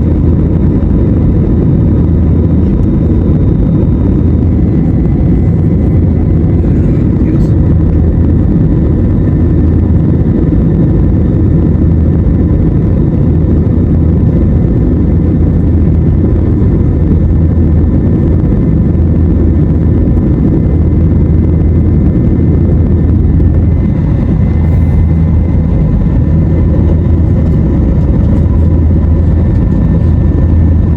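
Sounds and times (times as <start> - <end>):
vehicle engine rumble: 0.0 - 30.9.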